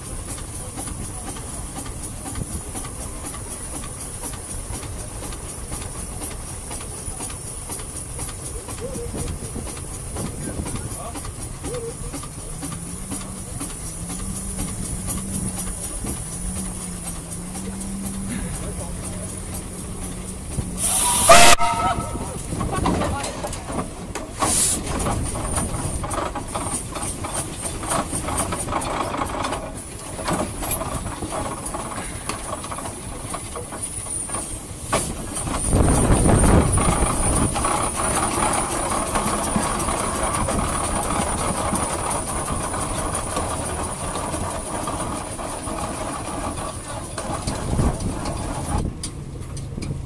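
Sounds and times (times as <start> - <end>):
steam hiss: 0.0 - 48.7
steam engine exhaust beat: 0.0 - 50.0.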